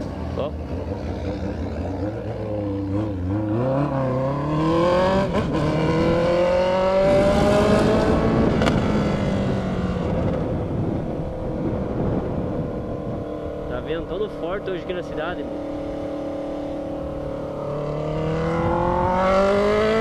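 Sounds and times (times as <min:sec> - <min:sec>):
motorcycle accelerating: 0:00.0 - 0:20.0.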